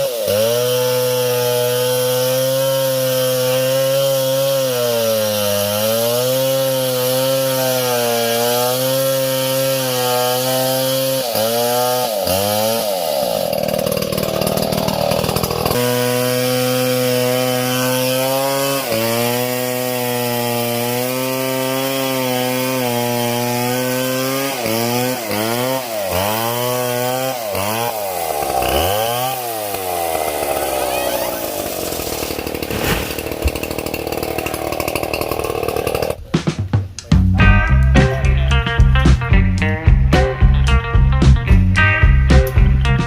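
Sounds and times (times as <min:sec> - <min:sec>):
chainsaw cutting wood: 0:00.0 - 0:36.3
chainsaw engine revving: 0:00.0 - 0:36.3.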